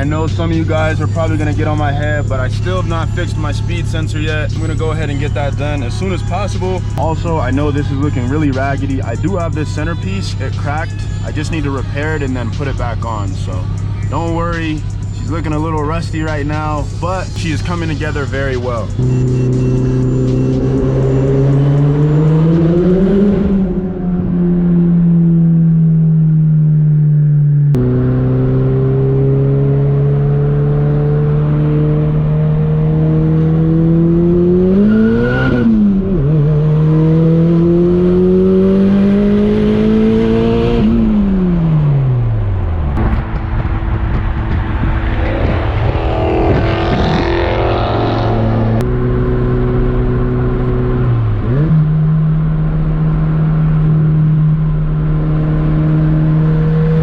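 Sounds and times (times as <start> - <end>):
turbocharged car engine: 0.0 - 57.0.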